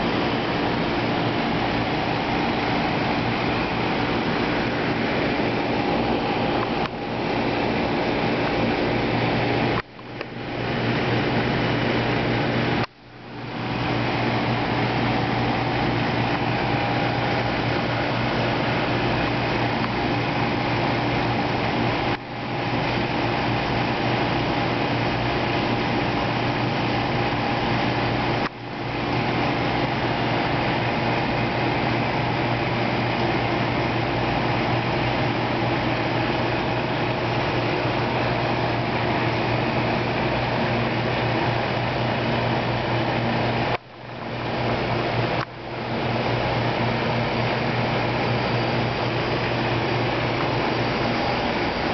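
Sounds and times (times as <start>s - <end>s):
running equipment hum: 0.0s - 51.9s.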